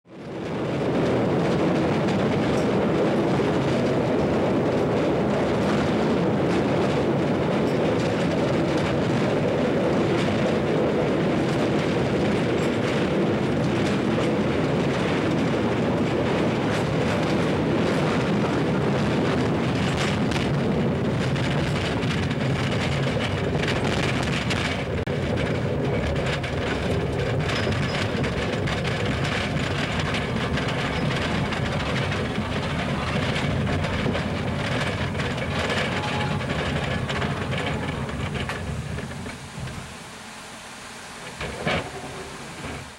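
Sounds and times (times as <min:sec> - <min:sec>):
train wheels rumbling in tunnel: 0:00.1 - 0:42.9
rail joint clicks: 0:00.2 - 0:40.0, 0:41.2 - 0:42.9.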